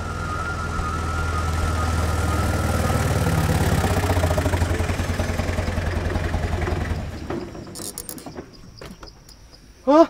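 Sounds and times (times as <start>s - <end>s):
truck engine idling: 0.0s - 9.6s.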